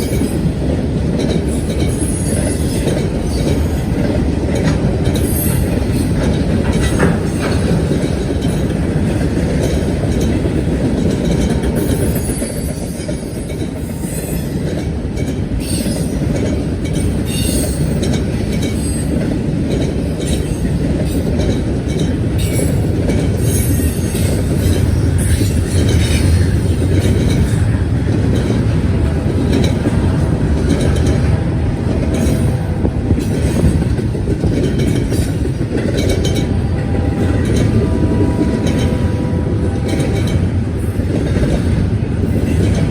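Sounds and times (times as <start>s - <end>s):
freight train cars rolling: 0.0s - 42.9s
train wheels clicking and rattling: 0.0s - 42.9s.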